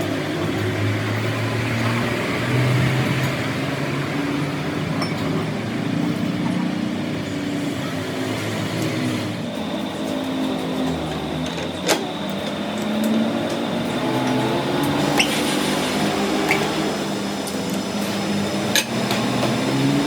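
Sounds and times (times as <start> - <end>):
mechanical noise: 0.0 - 20.0.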